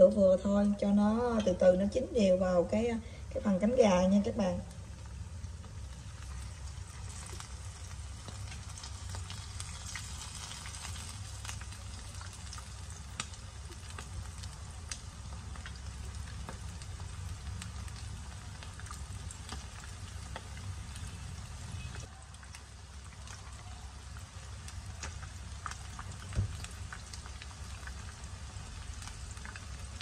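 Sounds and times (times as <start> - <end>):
chicken deep-frying in oil: 0.0 - 30.0.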